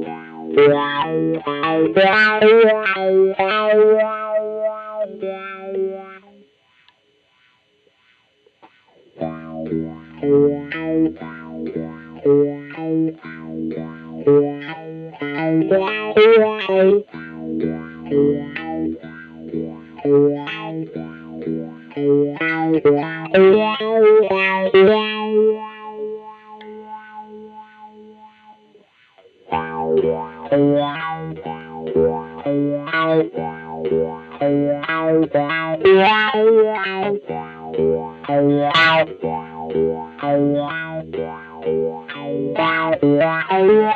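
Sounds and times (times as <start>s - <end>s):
electric guitar through amp: 0.0s - 43.9s.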